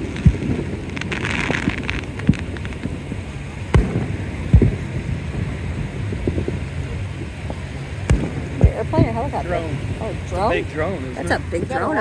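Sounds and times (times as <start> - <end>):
beach surf: 0.0 - 12.0
wind on microphone: 0.0 - 12.0.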